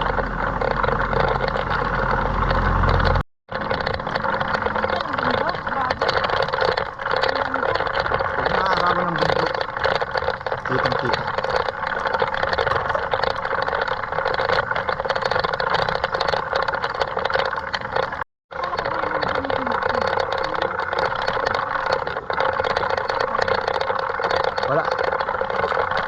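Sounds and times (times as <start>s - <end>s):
bike rolling on rough road: 0.0s - 26.0s
fine rattling: 0.0s - 26.0s.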